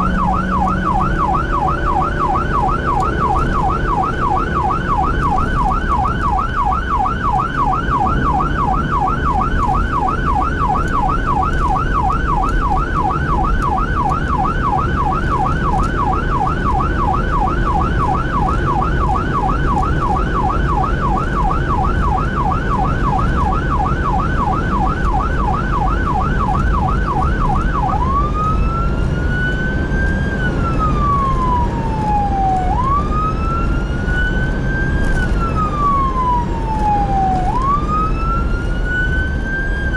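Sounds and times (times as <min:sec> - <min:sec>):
engine and road rumble: 0:00.0 - 0:39.9
fire engine siren: 0:00.0 - 0:39.9.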